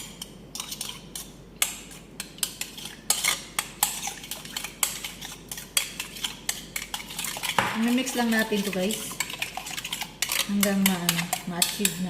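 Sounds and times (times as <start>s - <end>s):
utensil clinking against bowl: 0.0s - 12.0s.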